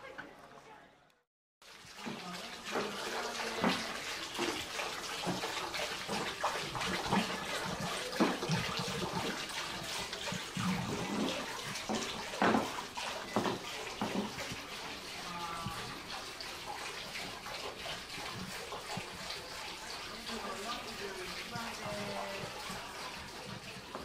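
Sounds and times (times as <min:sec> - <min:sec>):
water running and splashing: 0:01.6 - 0:24.0.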